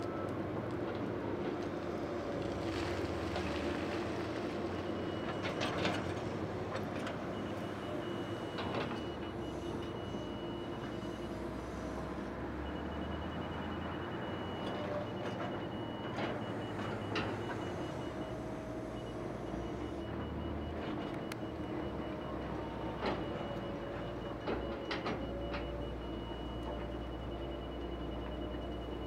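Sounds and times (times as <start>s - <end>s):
diesel engines of heavy machinery: 0.0s - 29.0s.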